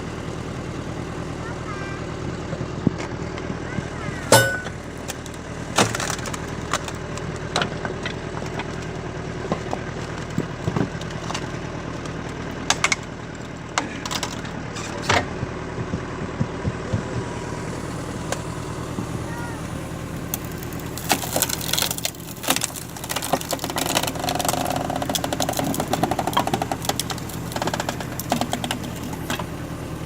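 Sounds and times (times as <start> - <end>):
tractor engine running: 0.0 - 30.0
log cracking and splintering: 4.7 - 19.2, 19.8 - 30.0.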